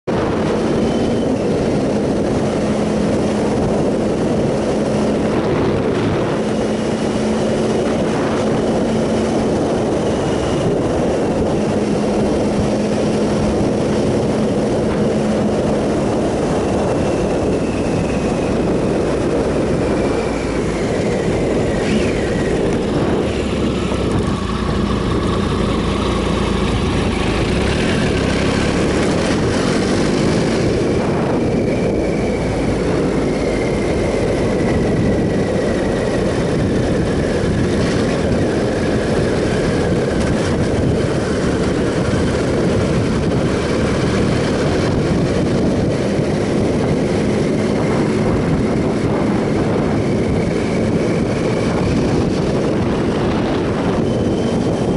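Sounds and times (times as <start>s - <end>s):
motorcycle engine running: 0.0s - 54.9s
road rush: 0.0s - 54.9s
wind noise: 0.0s - 54.9s.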